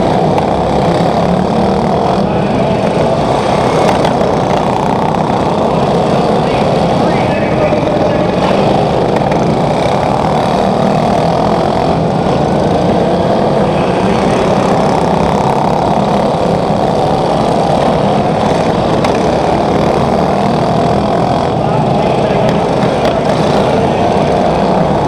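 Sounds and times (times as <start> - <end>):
racing lawn mower engines: 0.0 - 25.0.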